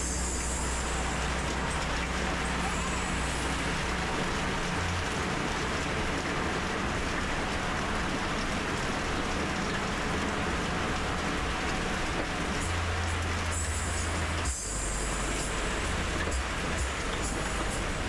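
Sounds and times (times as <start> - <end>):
bus diesel engine drone: 0.0 - 18.0
rain hissing: 0.0 - 18.0
tyres on wet road: 0.0 - 18.0.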